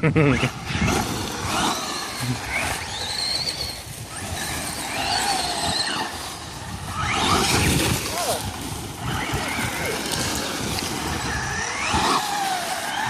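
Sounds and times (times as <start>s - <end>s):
steady rushing noise: 0.0s - 13.0s
rc car motors whining: 0.2s - 13.0s.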